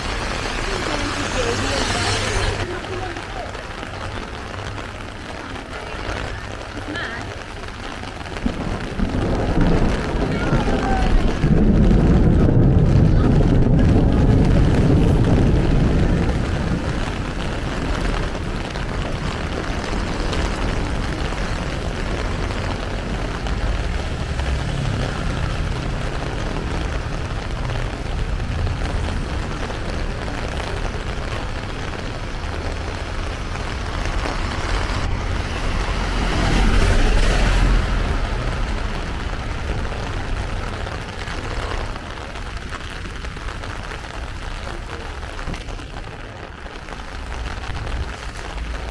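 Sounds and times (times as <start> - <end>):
heavy rain pouring: 0.0 - 48.9
street traffic rumble: 0.0 - 48.9.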